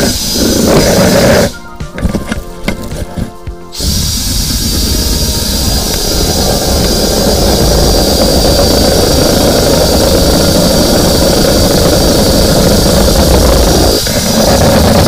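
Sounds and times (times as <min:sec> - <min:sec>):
drain cleaning machine motor whine: 0:00.0 - 0:15.0.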